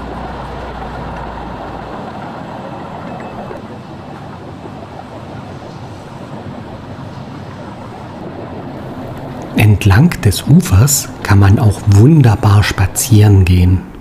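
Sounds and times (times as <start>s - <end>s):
train wheels rolling on rails: 0.0s - 12.1s
low rumble: 0.0s - 13.0s.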